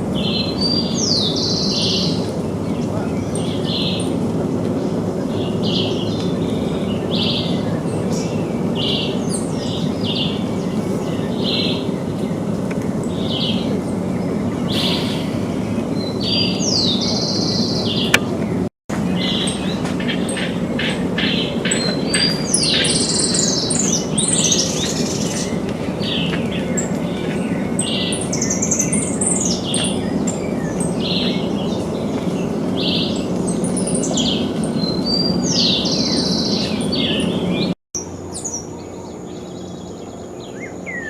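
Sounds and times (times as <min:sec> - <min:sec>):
birds chirping: 0:00.0 - 0:41.0
low background hum: 0:00.0 - 0:41.0.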